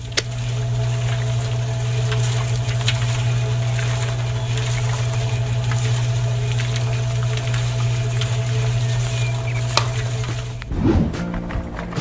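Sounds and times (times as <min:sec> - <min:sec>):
small electric motor humming: 0:00.0 - 0:10.6.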